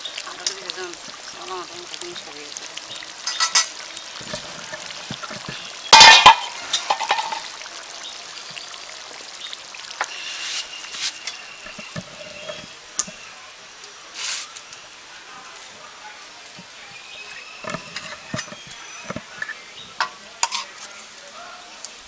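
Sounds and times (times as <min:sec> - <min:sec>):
curry bubbling in metal pot: 0:00.0 - 0:22.0.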